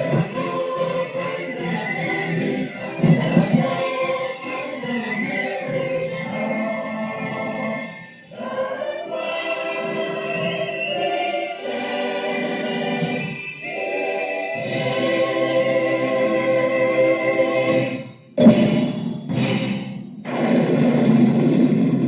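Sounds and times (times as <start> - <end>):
choir singing: 0.0 - 18.8
musical backing: 0.0 - 20.6.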